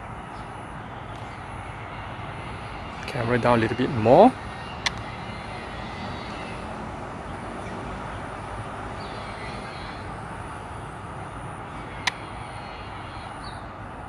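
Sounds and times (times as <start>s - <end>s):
distant city traffic hum: 0.0s - 14.0s.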